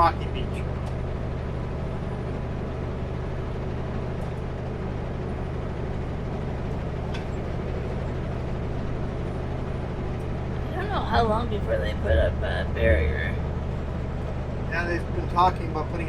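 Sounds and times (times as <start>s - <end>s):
road noise: 0.0s - 16.0s
truck engine drone: 0.0s - 16.0s.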